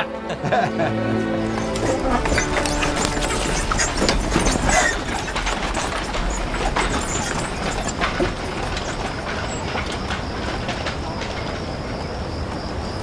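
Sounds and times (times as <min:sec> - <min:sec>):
handcart wheels rumbling: 0:00.4 - 0:13.0.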